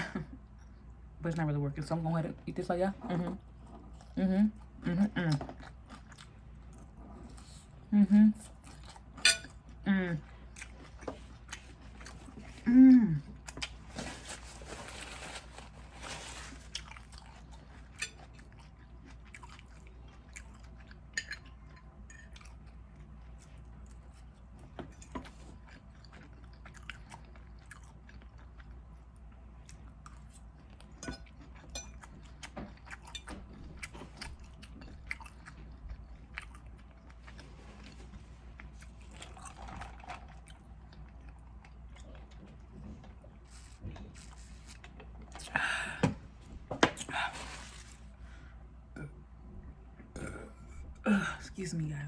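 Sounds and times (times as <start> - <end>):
person chewing food: 3.4 - 15.7, 16.4 - 46.0.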